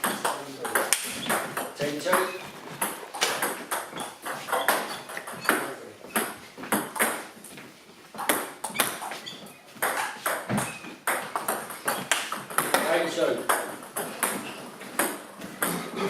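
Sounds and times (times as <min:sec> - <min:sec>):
table tennis ball hits: 0:00.0 - 0:07.4, 0:08.1 - 0:16.0.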